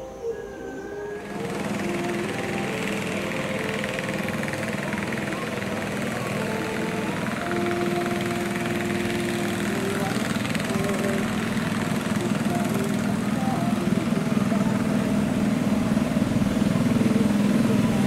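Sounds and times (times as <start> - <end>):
boat engines running: 0.0 - 18.0.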